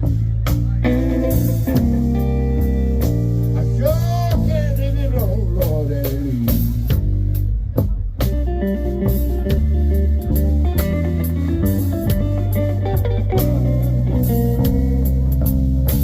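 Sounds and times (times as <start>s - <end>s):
bass guitar: 0.0s - 16.0s
blues guitar: 0.0s - 16.0s
drums: 0.0s - 16.0s.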